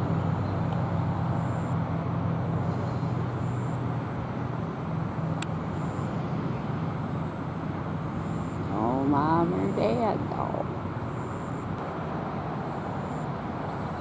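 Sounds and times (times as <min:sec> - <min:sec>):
outdoor background noise: 0:00.0 - 0:14.0
vehicle engine humming: 0:00.0 - 0:14.0.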